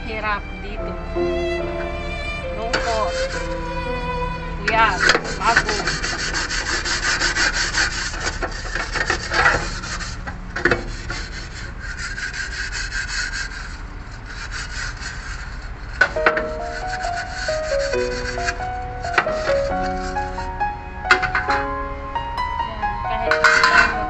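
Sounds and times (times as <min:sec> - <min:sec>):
rapid rasping scrubbing: 0:02.4 - 0:21.8, 0:23.1 - 0:24.0.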